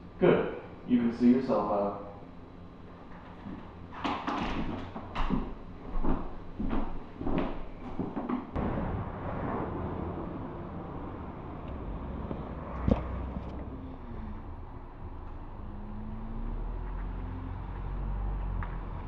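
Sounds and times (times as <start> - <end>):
distant traffic: 0.0 - 19.0
low vehicle hum: 0.0 - 19.0.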